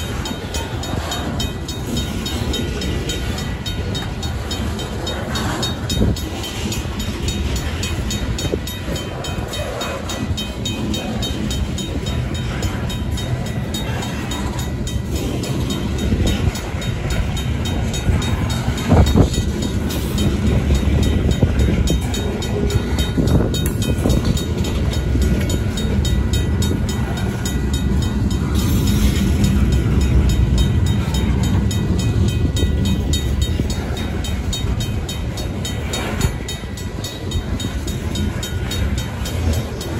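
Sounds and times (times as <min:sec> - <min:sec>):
crossing bell ringing: 0:00.0 - 0:39.9
train wheels rumbling on rail: 0:00.0 - 0:39.9.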